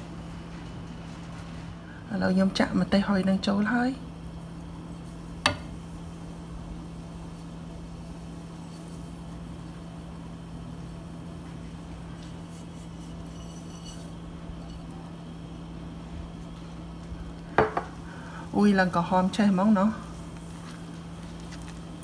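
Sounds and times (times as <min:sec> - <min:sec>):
faint kitchen noise: 0:00.0 - 0:22.0
steady low hum: 0:00.0 - 0:22.0.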